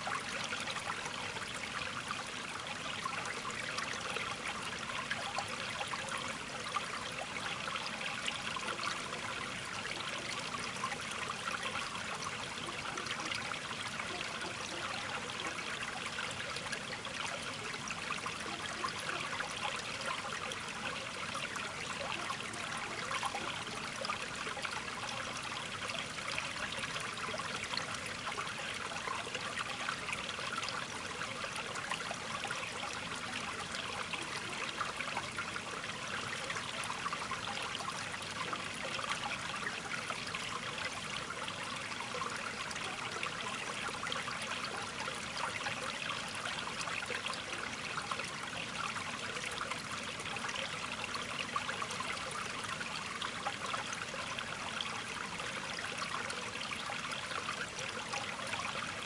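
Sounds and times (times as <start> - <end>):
running water trickling: 0.0 - 59.0.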